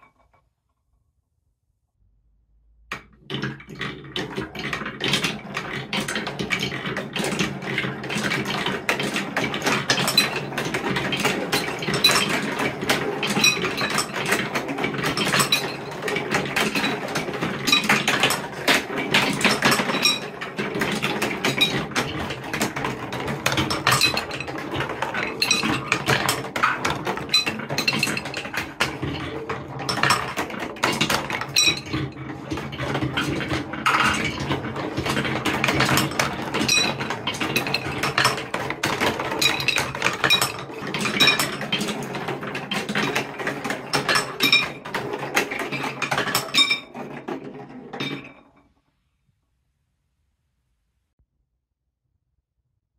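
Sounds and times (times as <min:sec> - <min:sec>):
marbles clattering down track: 0:02.9 - 0:48.5.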